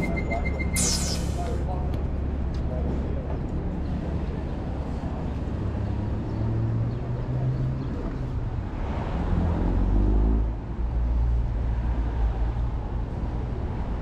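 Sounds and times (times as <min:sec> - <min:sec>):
rumble of passing traffic: 0:00.0 - 0:14.0.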